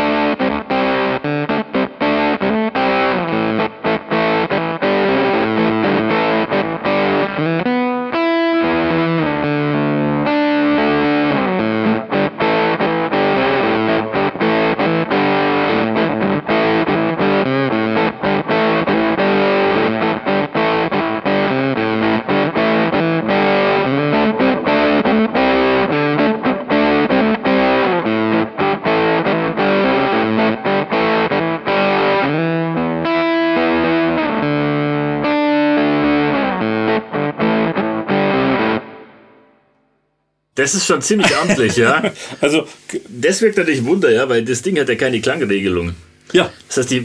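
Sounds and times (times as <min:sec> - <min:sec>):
fuzz electric guitar lead lines: 0:00.0 - 0:39.7.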